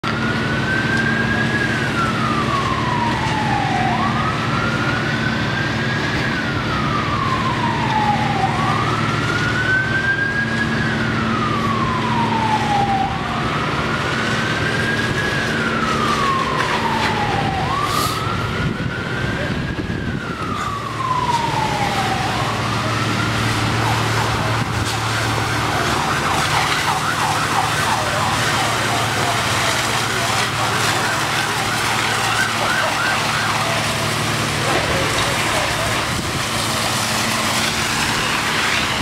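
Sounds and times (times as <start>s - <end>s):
siren wailing: 0.0s - 39.0s.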